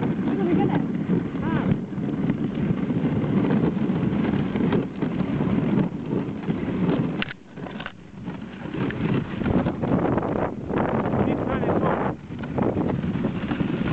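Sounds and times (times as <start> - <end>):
clothing rubbing on microphone: 0.0 - 13.9
wind noise: 0.0 - 13.9.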